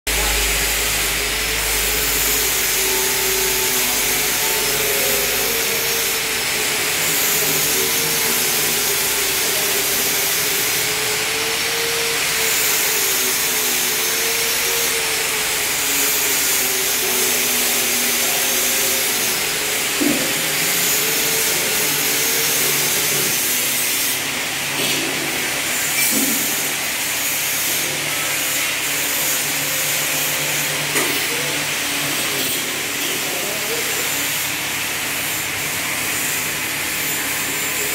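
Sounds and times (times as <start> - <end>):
machinery hissing and humming: 0.1 - 37.9.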